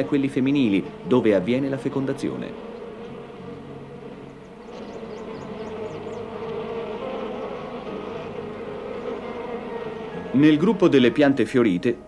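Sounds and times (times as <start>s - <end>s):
bee buzzing: 0.0s - 12.0s.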